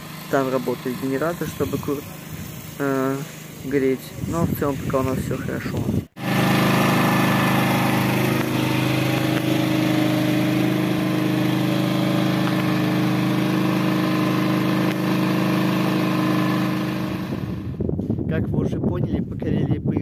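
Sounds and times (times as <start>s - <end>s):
generator engine running: 0.0s - 17.8s.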